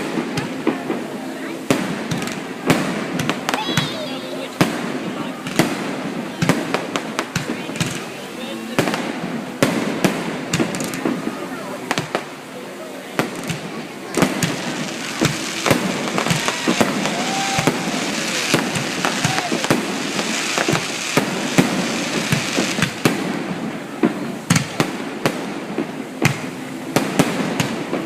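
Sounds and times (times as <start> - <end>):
fireworks bangs: 0.0 - 28.0
hissing crackle: 0.0 - 28.0.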